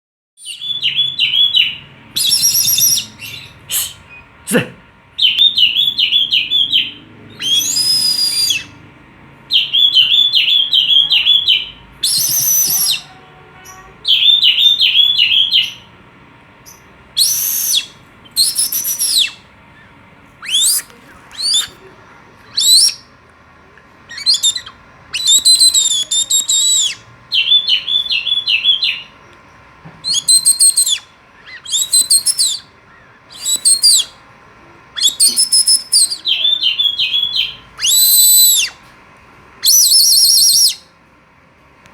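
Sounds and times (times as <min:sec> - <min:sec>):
songbird singing chirps and whistles: 0:00.4 - 0:04.4, 0:05.2 - 0:08.9, 0:09.5 - 0:15.9, 0:16.6 - 0:38.9, 0:39.6 - 0:41.0.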